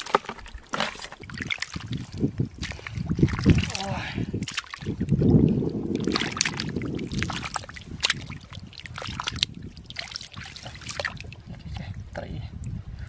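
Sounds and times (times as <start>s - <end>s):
hands squelching through wet mud: 0.0s - 12.0s.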